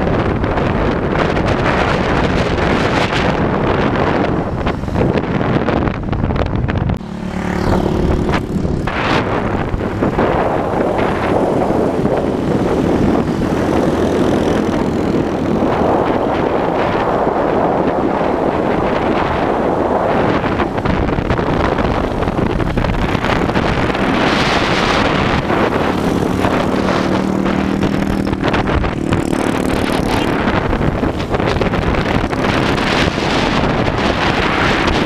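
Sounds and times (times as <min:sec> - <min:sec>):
low engine hum: 0:00.0 - 0:35.0
road noise: 0:00.0 - 0:35.0
wind rushing over microphone: 0:00.0 - 0:35.0.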